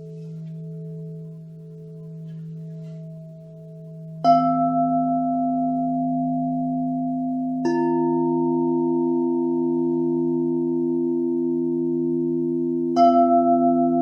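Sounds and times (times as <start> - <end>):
low hum from singing bowl: 0.0 - 14.0
singing bowl ringing: 0.0 - 14.0.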